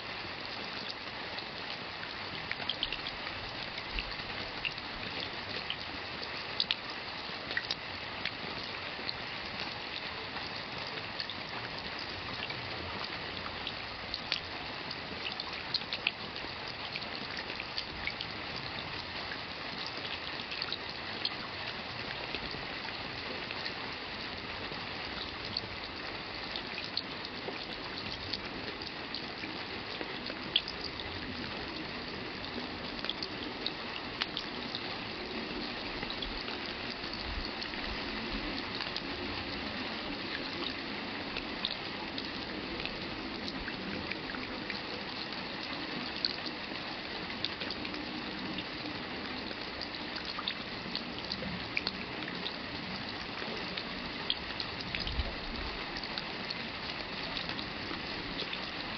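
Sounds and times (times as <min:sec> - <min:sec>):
steady rain hiss: 0:00.0 - 0:58.9
raindrops ticking: 0:00.4 - 0:46.6, 0:47.2 - 0:58.8.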